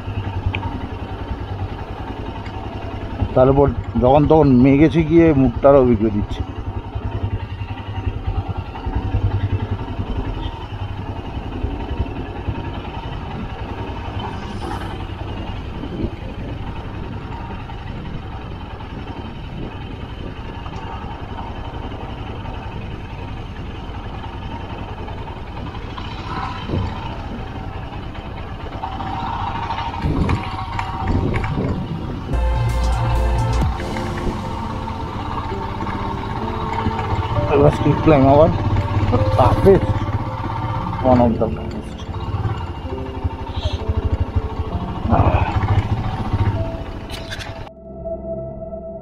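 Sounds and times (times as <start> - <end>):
motorcycle engine rumbling: 0.0 - 47.8.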